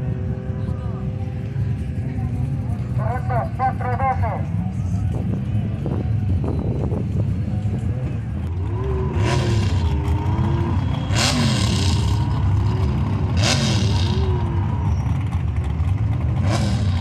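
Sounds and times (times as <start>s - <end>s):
buggy engines idling and revving: 0.0s - 17.0s.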